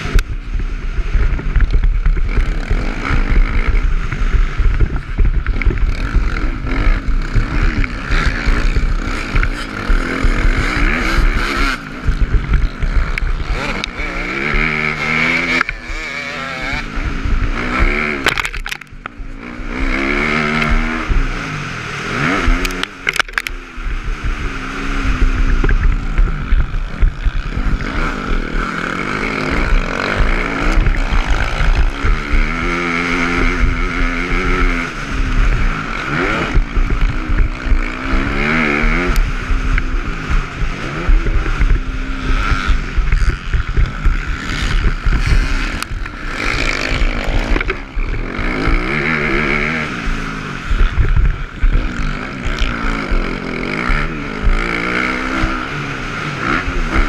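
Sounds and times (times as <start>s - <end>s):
dirt bike engine revving: 0.0s - 57.0s
wind rumble: 0.0s - 57.0s.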